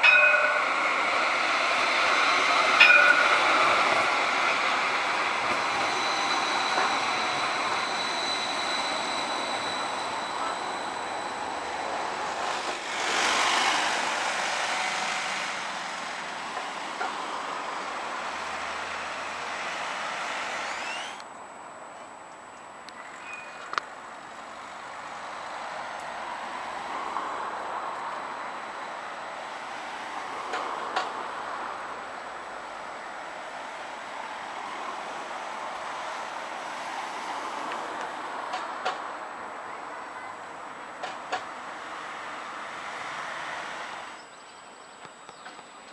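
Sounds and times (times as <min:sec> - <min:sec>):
outdoor noise: 0:00.0 - 0:45.9
tram passing with electric whine: 0:00.0 - 0:45.9.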